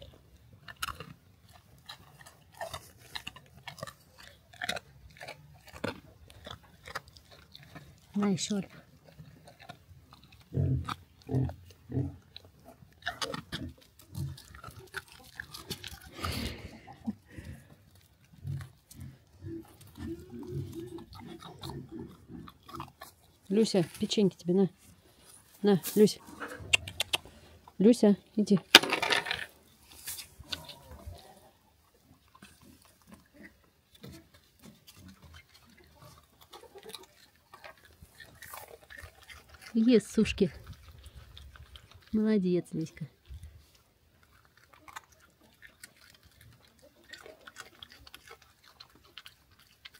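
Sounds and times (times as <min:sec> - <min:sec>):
animals chewing and crunching: 0:00.0 - 0:49.9.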